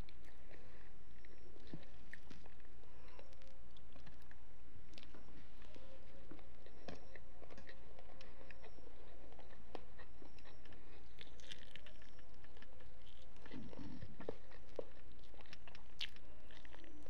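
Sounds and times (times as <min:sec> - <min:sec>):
person chewing food: 0:00.0 - 0:17.0
small crunches: 0:00.0 - 0:17.0.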